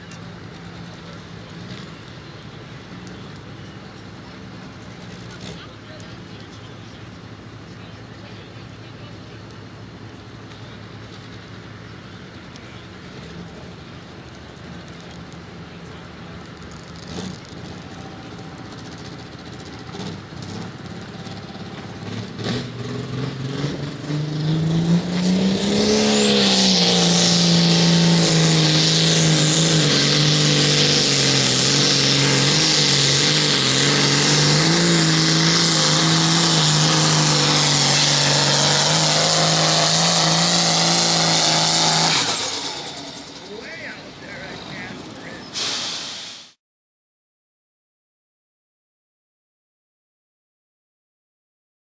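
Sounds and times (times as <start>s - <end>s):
tractor diesel engine revving: 0.0s - 46.6s.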